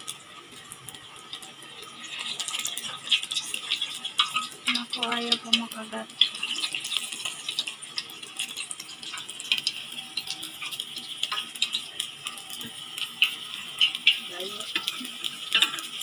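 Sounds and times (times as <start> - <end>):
hot oil sizzling and popping: 0.0 - 16.0.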